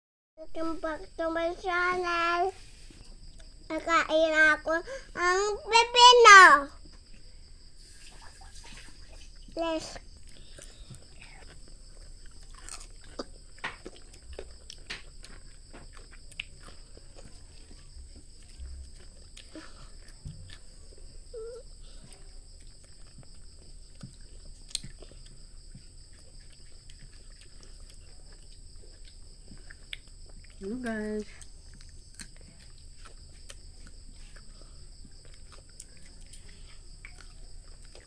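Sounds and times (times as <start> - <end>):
child chewing cucumber: 0.9 - 5.6, 6.7 - 38.0.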